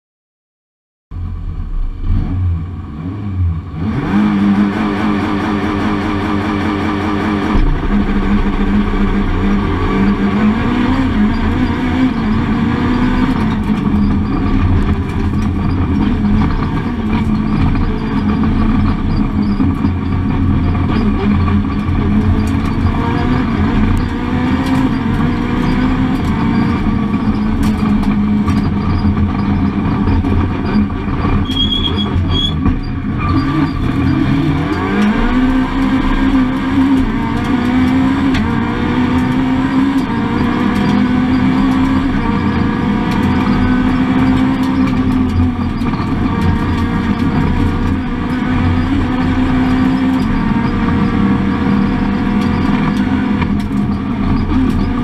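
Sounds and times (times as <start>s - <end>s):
road and wind noise: 1.1s - 55.0s
car engine revving hard: 2.0s - 32.3s, 33.0s - 55.0s.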